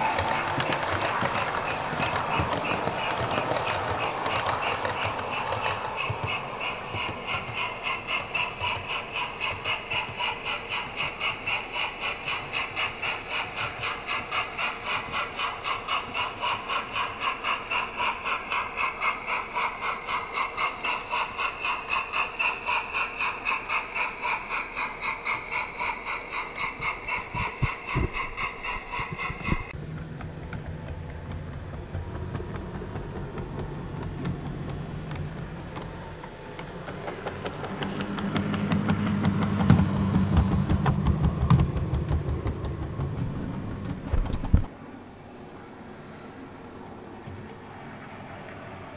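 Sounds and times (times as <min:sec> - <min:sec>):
model steam locomotive chuffing: 0:00.0 - 0:44.7
model railcar humming: 0:00.0 - 0:48.9.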